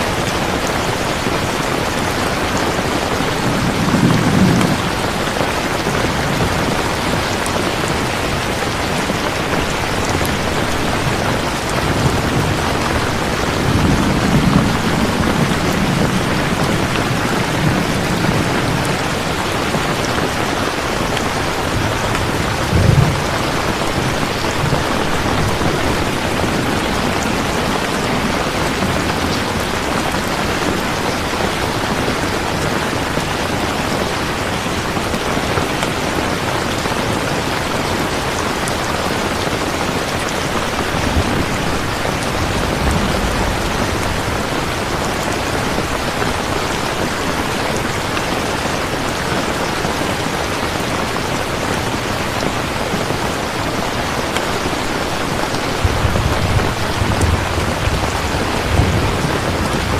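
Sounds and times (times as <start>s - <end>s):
rain falling: 0.0s - 59.9s
thunder rumbling: 0.1s - 35.1s, 36.4s - 50.0s, 54.7s - 59.9s.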